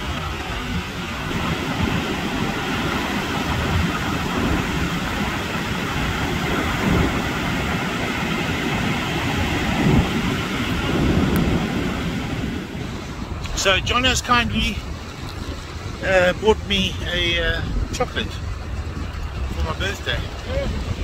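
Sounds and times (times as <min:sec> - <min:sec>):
surf breaking: 0:00.0 - 0:21.0
wind buffeting microphone: 0:00.0 - 0:21.0.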